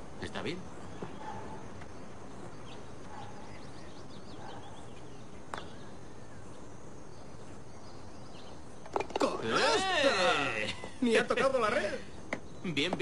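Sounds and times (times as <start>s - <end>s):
faint birdsong: 0.0s - 13.0s
outdoor ambience: 0.0s - 13.0s.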